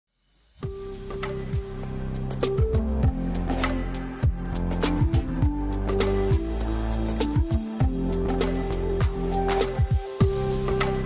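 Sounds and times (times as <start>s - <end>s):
synth music with deep drums: 0.6s - 11.0s.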